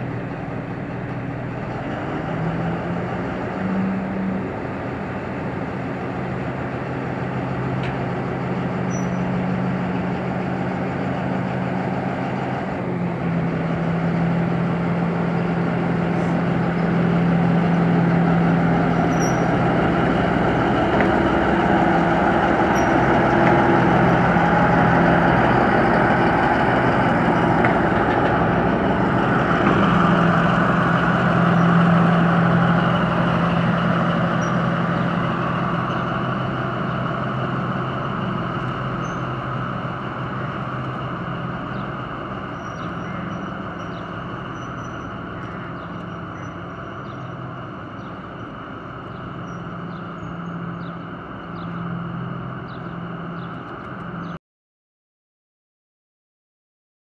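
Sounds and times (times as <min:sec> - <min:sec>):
diesel locomotive engine running: 0:00.0 - 0:54.4.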